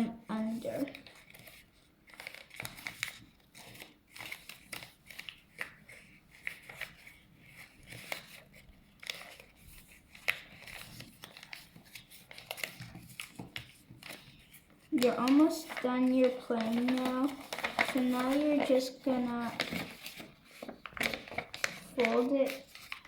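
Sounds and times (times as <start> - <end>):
paper crinkling and rustling: 0.0 - 23.0.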